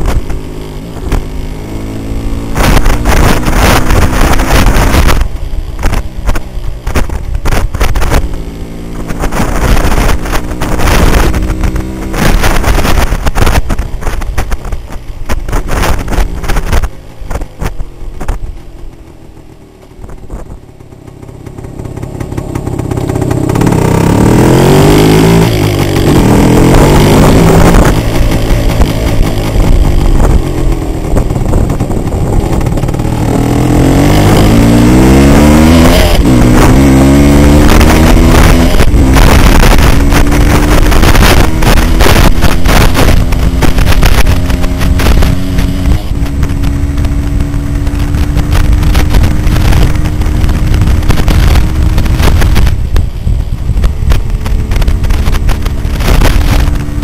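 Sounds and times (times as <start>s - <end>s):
two-stroke motorcycle engine: 0.0s - 57.0s.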